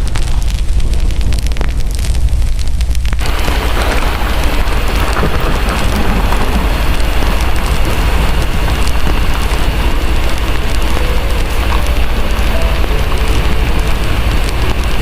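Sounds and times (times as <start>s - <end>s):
deep low rumble: 0.0s - 15.0s
heavy rain falling: 0.0s - 15.0s
wood fire crackling: 0.0s - 15.0s.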